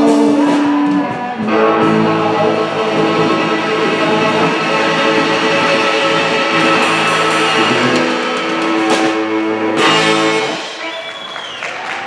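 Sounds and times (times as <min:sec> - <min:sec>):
rock band playing closing chord: 0:00.0 - 0:11.0.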